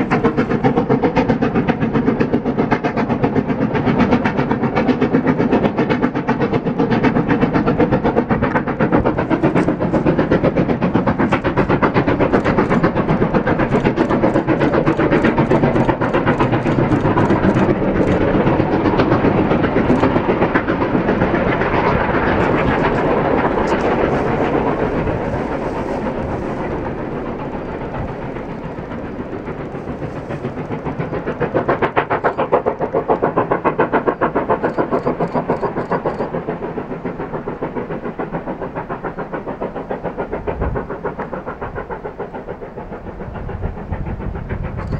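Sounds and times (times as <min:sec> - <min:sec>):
steam locomotive chugging: 0:00.0 - 0:44.9.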